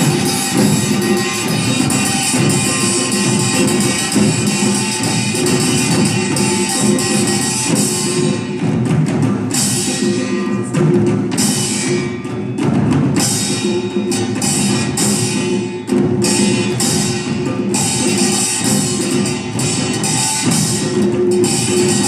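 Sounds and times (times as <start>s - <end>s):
drum ensemble playing: 0.0s - 22.0s.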